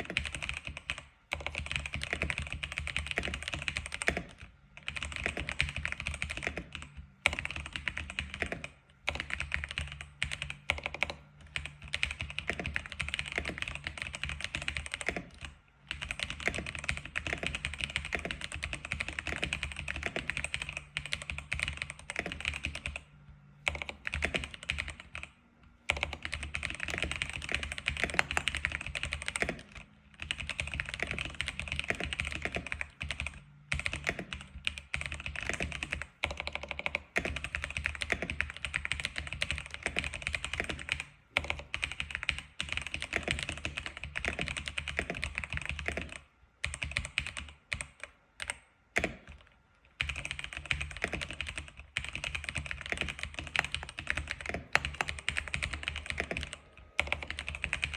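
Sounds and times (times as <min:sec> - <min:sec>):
keyboard typing: 0:00.0 - 0:57.9.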